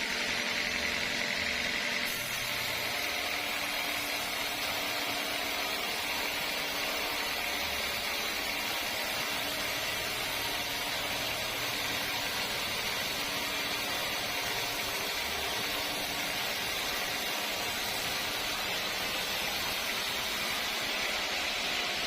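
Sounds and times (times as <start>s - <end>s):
sawmill machinery hiss: 0.0s - 22.0s.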